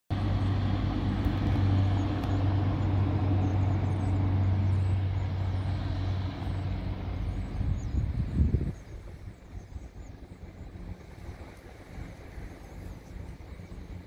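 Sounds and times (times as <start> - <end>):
helicopter low drone: 0.1 - 14.0.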